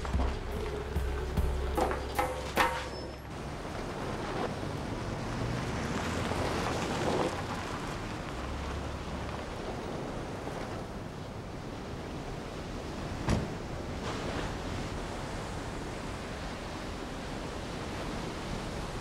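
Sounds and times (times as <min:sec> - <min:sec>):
minibus driving on dirt road: 0:00.0 - 0:19.0
surf: 0:00.0 - 0:19.0
wind: 0:00.0 - 0:19.0.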